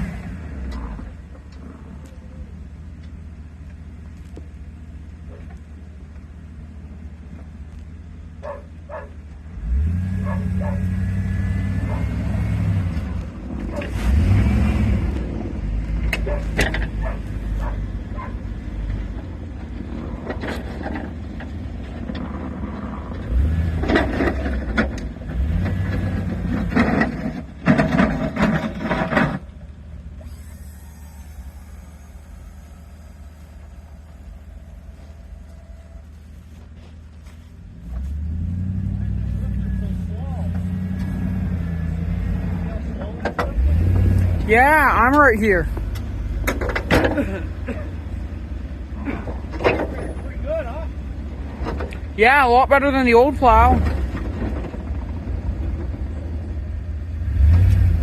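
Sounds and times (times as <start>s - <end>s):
truck engine plowing snow: 0.0s - 58.0s.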